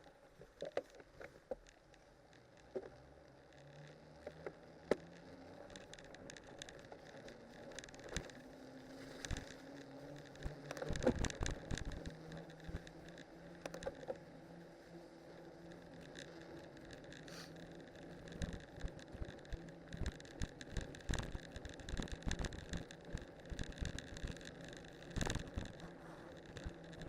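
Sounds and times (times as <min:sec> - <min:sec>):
bike tyres rolling on road: 0:00.0 - 0:27.0
bike clicking and rattling: 0:00.3 - 0:27.0.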